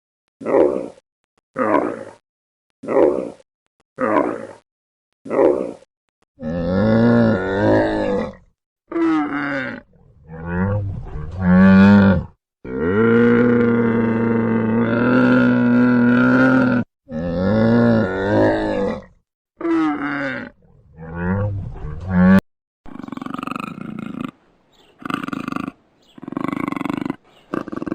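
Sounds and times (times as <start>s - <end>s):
large animal grunting calls: 5.3s - 27.9s.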